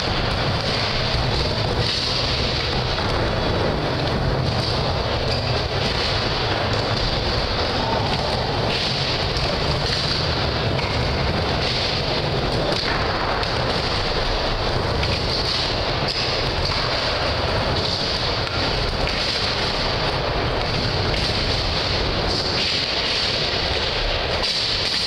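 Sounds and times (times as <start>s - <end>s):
skateboard wheels rolling on wood: 0.0s - 25.0s.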